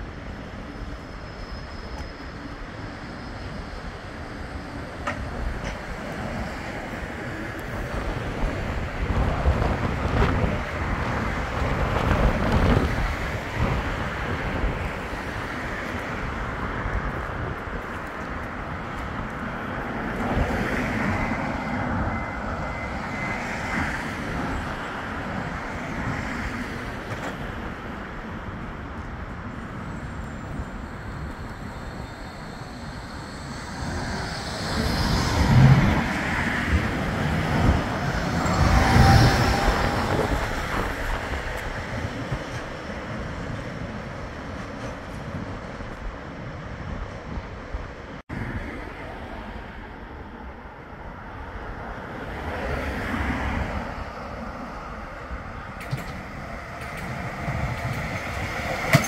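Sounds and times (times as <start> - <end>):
tram running on track: 0.0 - 59.0
wind rumbling on microphone: 2.0 - 59.0.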